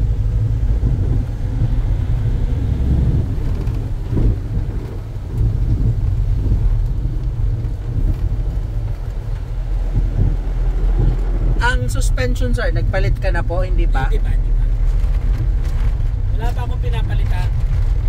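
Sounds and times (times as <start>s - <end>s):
van road noise on wet road: 0.0s - 18.0s.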